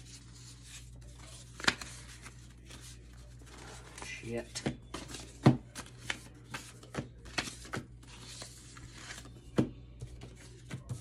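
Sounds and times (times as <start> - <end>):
cards shuffling: 0.0 - 11.0.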